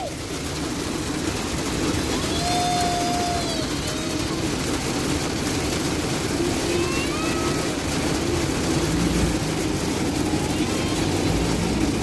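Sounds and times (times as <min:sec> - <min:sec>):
engine hum: 0:00.0 - 0:12.0
heavy rain on car roof: 0:00.0 - 0:12.0
bus passing: 0:00.4 - 0:12.0.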